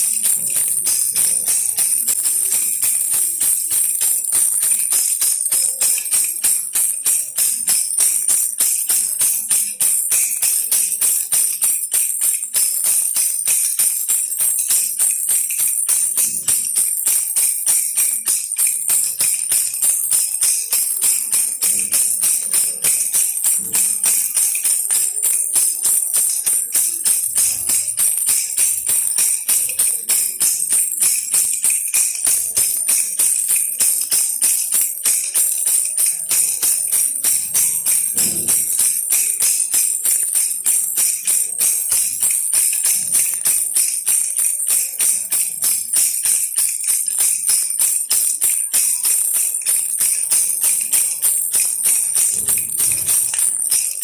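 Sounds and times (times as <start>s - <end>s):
baby rattle toy shaken: 0.0s - 54.0s.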